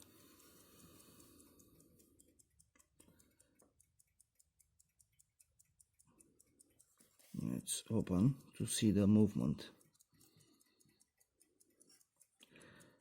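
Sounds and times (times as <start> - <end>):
pocket watch ticking: 0.0 - 13.0.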